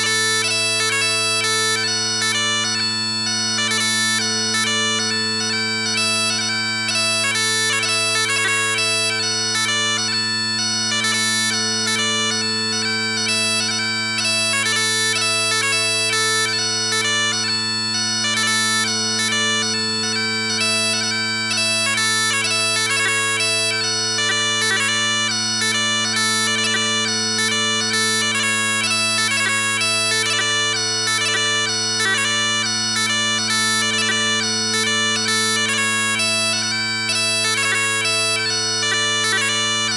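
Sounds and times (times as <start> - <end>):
bagpipe drones: 0.0 - 39.9
bagpipe tune with grace notes: 0.0 - 39.9.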